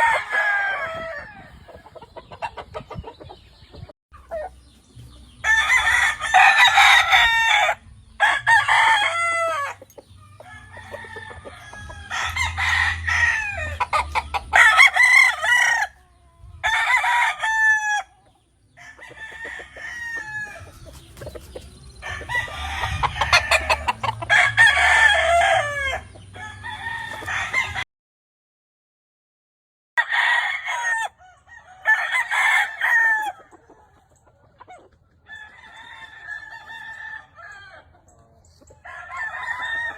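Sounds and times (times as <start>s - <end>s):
roosters crowing: 0.0s - 3.2s, 4.2s - 27.8s, 30.0s - 39.9s
chickens clucking: 0.0s - 27.8s, 31.0s - 39.9s.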